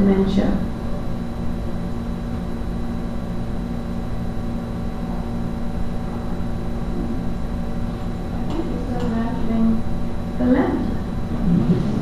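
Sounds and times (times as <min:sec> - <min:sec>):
faint constant tones: 0:00.0 - 0:12.0
low room hum: 0:00.0 - 0:12.0.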